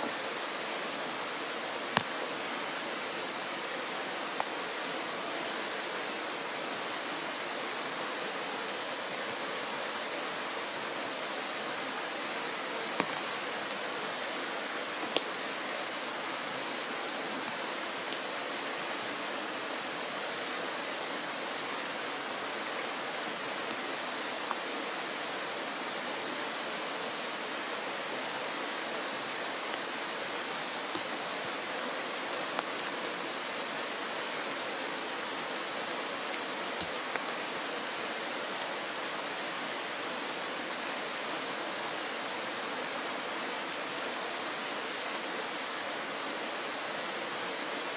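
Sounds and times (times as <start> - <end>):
stream rushing over stones: 0.0 - 47.9.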